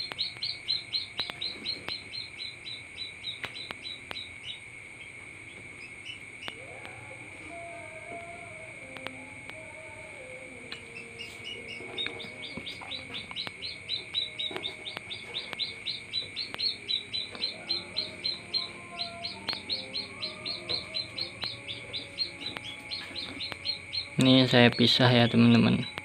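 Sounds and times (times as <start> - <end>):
chick peeping rapidly: 0.0 - 7.2, 10.8 - 26.0
steady high-pitched tone: 0.0 - 26.0.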